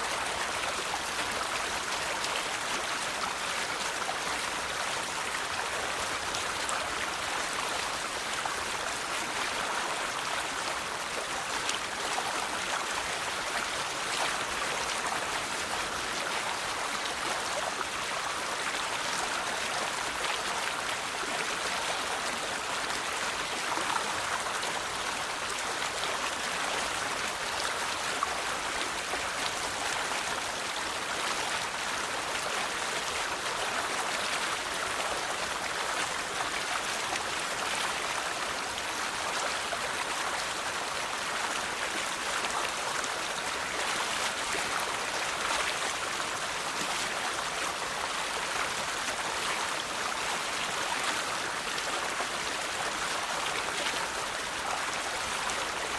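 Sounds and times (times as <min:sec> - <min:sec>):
river water flowing over stones: 0:00.0 - 0:55.9.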